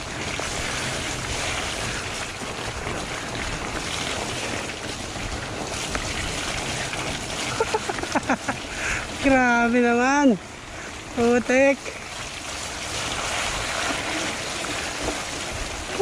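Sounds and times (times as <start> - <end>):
tyres rolling through mud: 0.0 - 16.0
wind buffeting microphone: 0.0 - 16.0.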